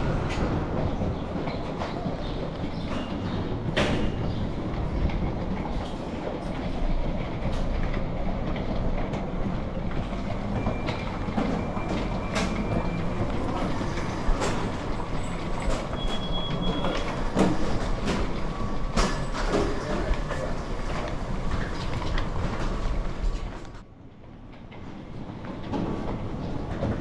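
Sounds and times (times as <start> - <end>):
suitcase wheels rolling on tile: 0.0 - 23.8, 24.6 - 27.0
wheels clicking over tile joints: 0.0 - 23.8.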